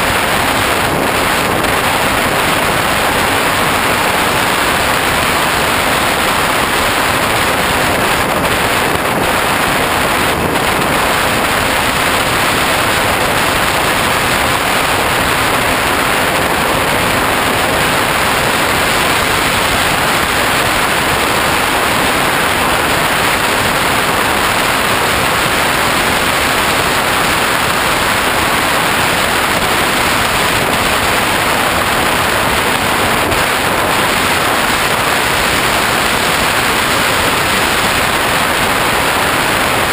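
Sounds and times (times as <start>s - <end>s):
loud rush of airflow: 0.0s - 39.9s.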